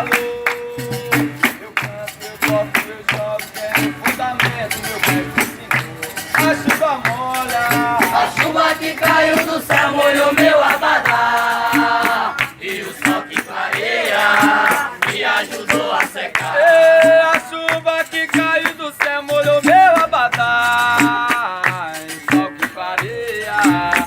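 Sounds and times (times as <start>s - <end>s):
steady percussion beat: 0.0s - 24.0s
voices singing together: 0.0s - 24.0s.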